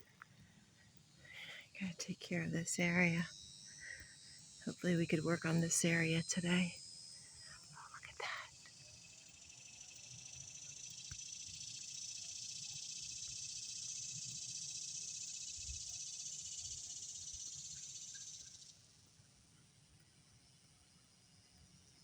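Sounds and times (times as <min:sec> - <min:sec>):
insect buzzing: 0:00.8 - 0:19.0.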